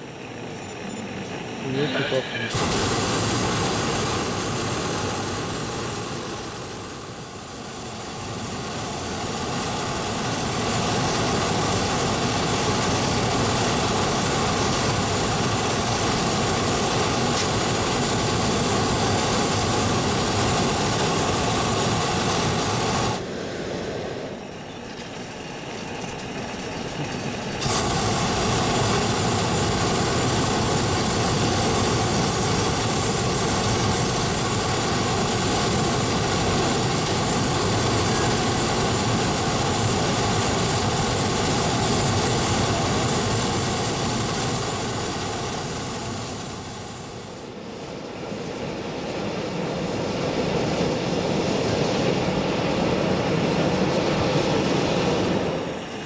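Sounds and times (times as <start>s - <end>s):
propane burner roaring: 0.0s - 56.0s.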